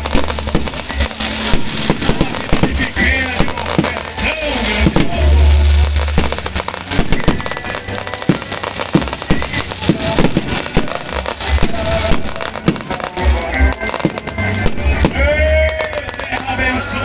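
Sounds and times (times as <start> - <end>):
firecracker pops: 0.0 - 16.6
music: 0.0 - 17.0.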